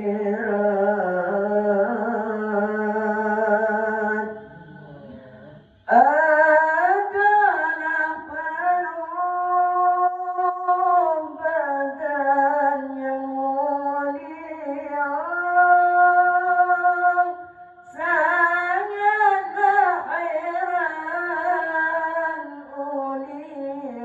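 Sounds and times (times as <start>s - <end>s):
man singing unaccompanied chant: 0.0s - 24.0s.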